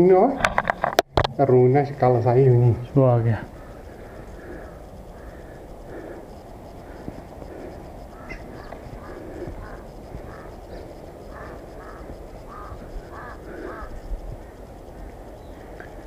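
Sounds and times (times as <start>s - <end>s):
birds calling: 1.5s - 16.0s.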